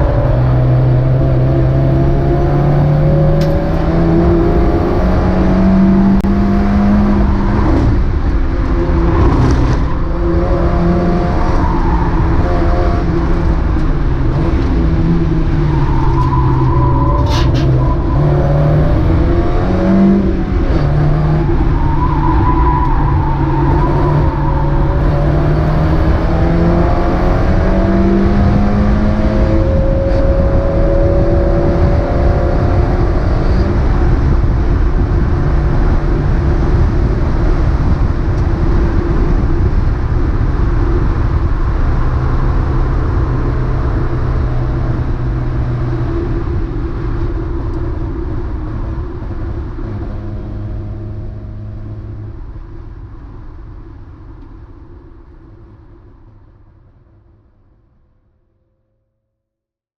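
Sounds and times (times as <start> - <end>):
road and wind noise: 0.0 - 59.1.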